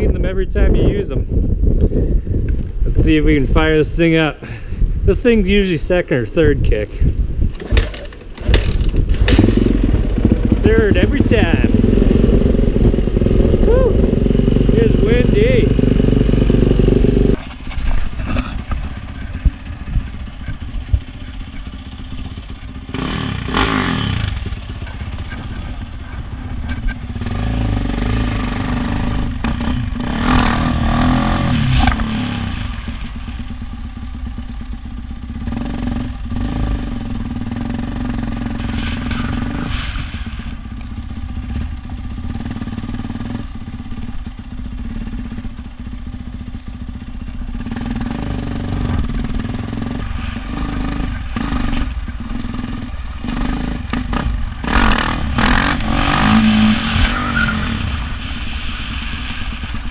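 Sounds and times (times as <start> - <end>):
dirt bike engine revving: 7.6 - 17.4, 18.0 - 46.2, 46.8 - 59.9.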